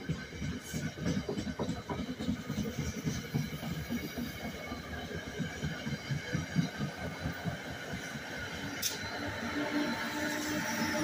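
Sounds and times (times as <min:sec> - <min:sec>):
train wheels clattering over rails: 0:00.0 - 0:11.0.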